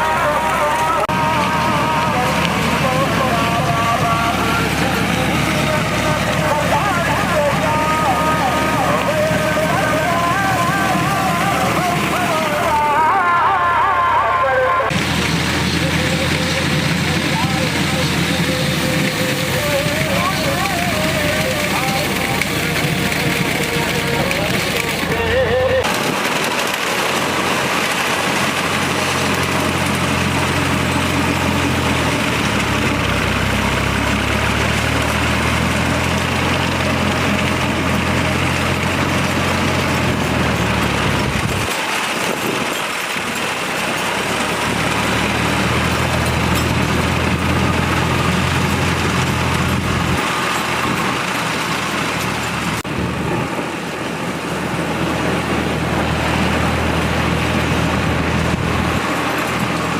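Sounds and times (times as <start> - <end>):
harvesting machinery engine running: 0.0 - 59.9.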